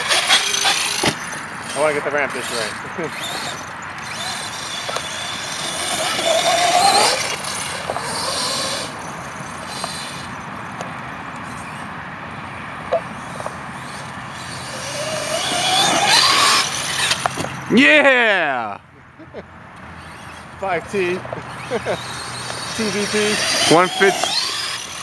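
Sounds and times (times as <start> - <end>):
electric motor whining: 0.0 - 10.4, 13.0 - 17.6, 19.9 - 25.0.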